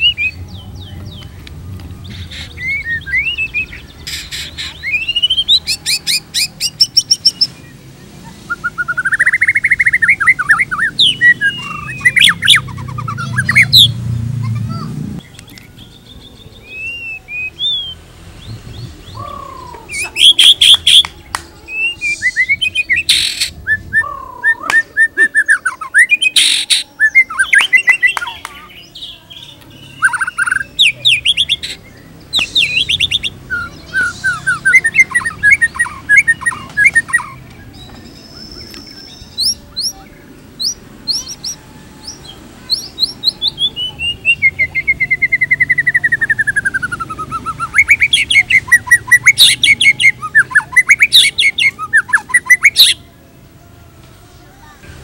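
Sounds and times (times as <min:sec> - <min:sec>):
bird singing trills and whistles: 0:00.0 - 0:14.0, 0:14.7 - 0:53.0.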